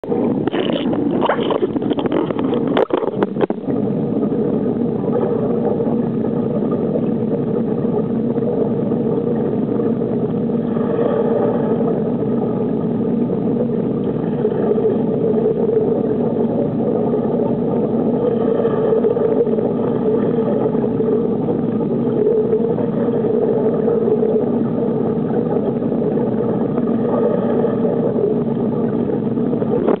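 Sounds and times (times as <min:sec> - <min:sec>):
engine drone: 0:00.0 - 0:30.0.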